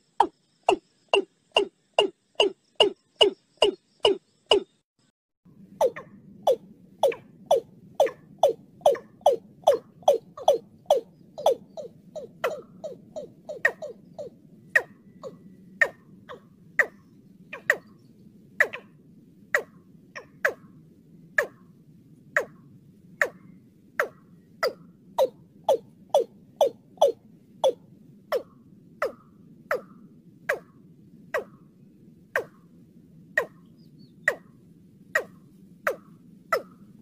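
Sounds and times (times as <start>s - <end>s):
steady low hiss: 5.5s - 37.0s.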